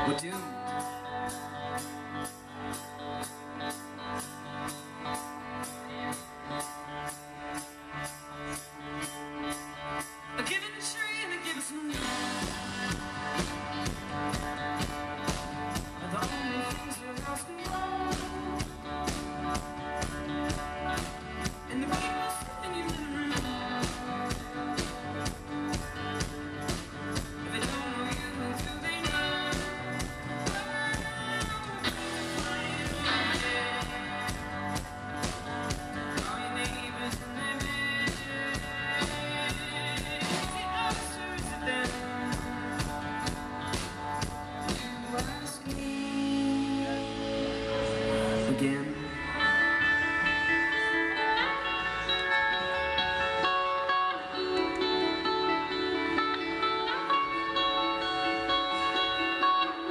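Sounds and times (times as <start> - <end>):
rock band with trumpets: 0.0 - 59.9.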